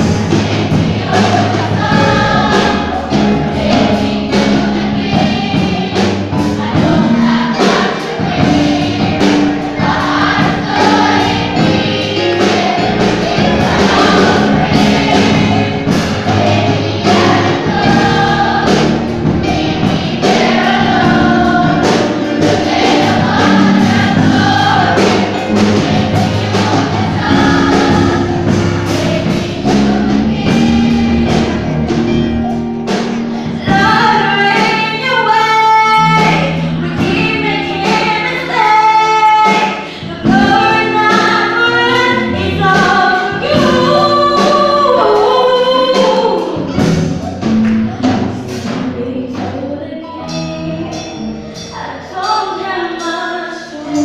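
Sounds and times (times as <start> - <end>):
drum beats: 0.0 - 53.1
children's choir singing: 0.0 - 54.0
live band playing: 0.0 - 54.0.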